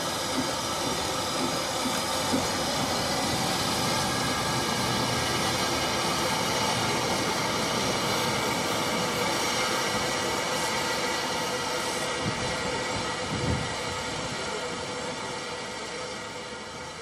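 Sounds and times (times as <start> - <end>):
steam hissing: 0.0 - 17.0
steam locomotive moving: 0.0 - 17.0.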